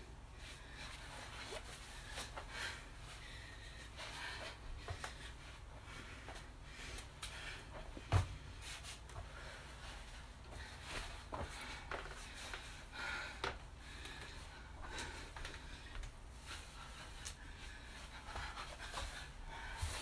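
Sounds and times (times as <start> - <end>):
person breathing hard: 0.0 - 20.0
rustling against the floor: 0.4 - 20.0.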